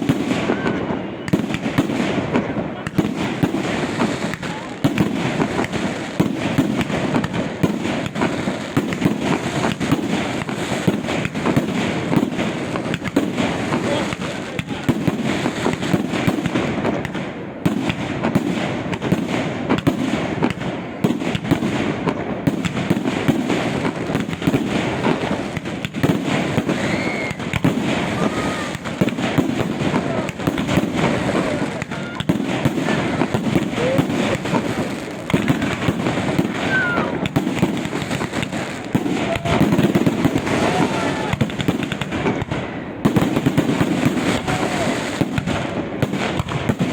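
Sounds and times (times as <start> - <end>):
fireworks cracking and crackling: 0.0 - 46.9.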